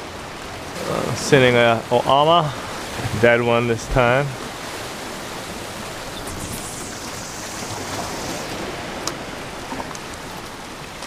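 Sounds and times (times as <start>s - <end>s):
ocean surf on rocks: 0.0s - 11.0s.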